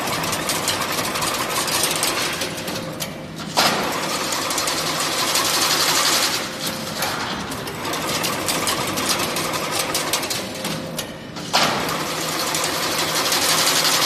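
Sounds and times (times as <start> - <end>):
fence machine mechanical clatter: 0.0 - 14.0.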